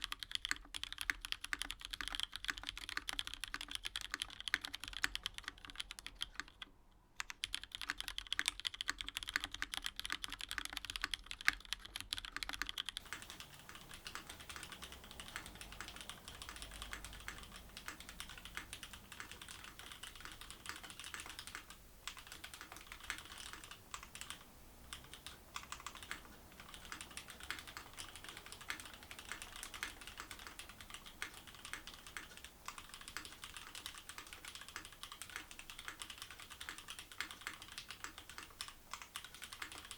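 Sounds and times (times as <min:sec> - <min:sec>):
keyboard typing clacks: 0:00.0 - 0:39.9.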